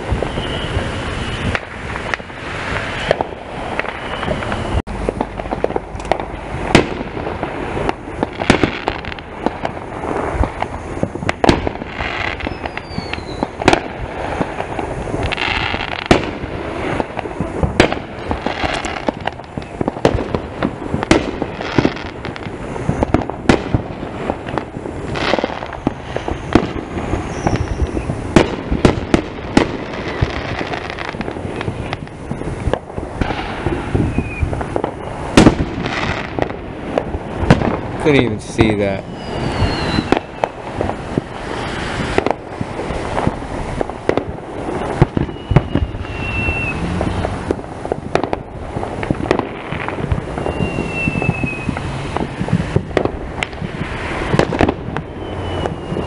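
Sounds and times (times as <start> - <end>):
falling firework whistle: 0.0 - 20.4, 21.0 - 56.0
fireworks bangs and pops: 0.0 - 56.0.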